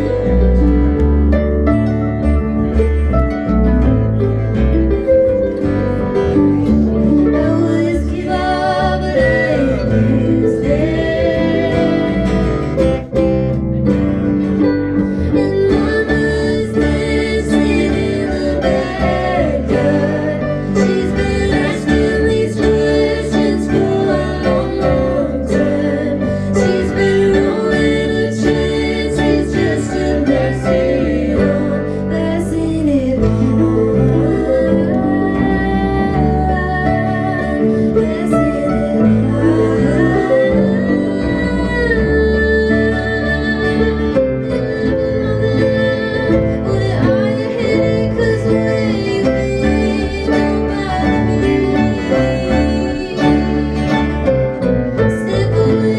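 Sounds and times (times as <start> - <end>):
acoustic guitar playing: 0.0 - 55.9
harp playing: 0.0 - 55.9
person singing: 6.5 - 13.2, 14.8 - 55.9.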